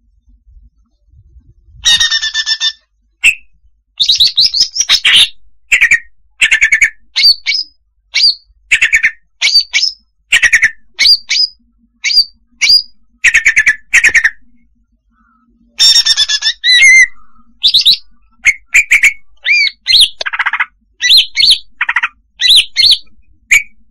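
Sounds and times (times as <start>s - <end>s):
bird calling with buzzy chatters: 1.8s - 23.9s.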